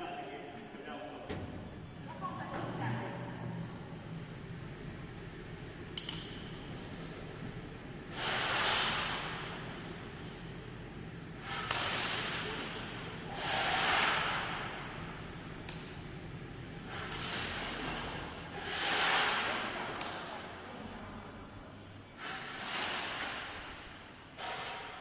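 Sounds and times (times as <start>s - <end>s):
low fan hum: 0.0s - 25.0s.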